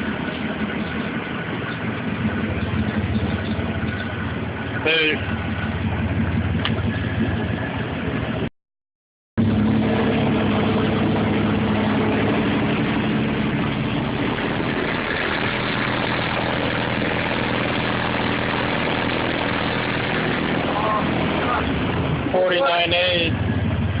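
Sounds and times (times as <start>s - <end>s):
car engine idling: 0.0s - 8.5s, 9.4s - 24.0s.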